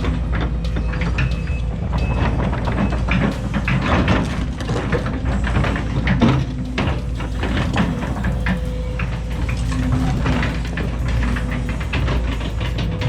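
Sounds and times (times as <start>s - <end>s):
excavator diesel engine running: 0.0s - 13.0s
metallic clanking and knocking: 2.4s - 13.0s.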